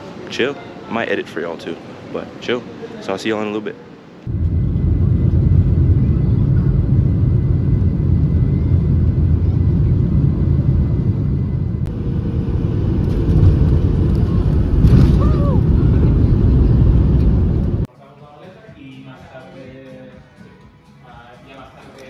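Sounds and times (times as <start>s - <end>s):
jet engines and airflow rumble: 0.0s - 17.9s.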